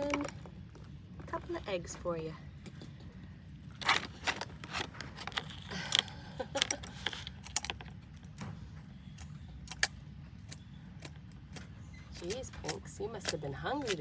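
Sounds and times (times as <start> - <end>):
eggshells cracking and crunching: 0.0 - 8.4, 9.0 - 14.0.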